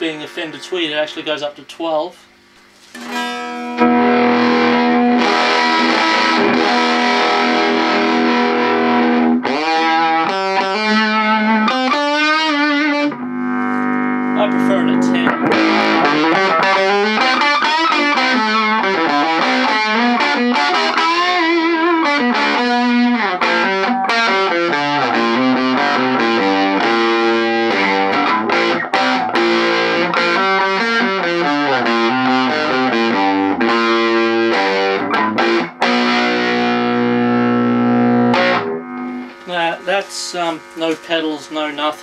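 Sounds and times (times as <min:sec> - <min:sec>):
overdriven electric guitar: 0:02.5 - 0:42.0.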